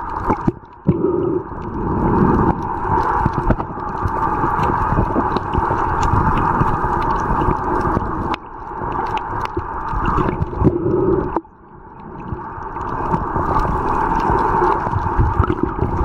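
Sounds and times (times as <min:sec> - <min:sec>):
crackling clicks: 0:00.0 - 0:16.0
underwater rushing rumble: 0:00.0 - 0:16.0.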